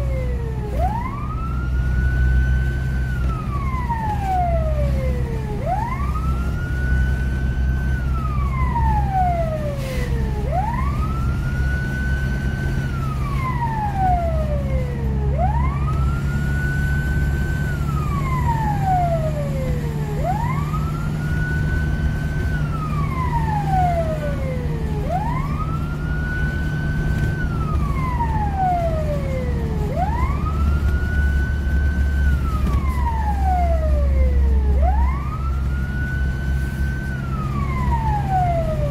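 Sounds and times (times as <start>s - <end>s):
engine and road rumble: 0.0s - 38.9s
fire engine siren wailing: 0.0s - 38.9s.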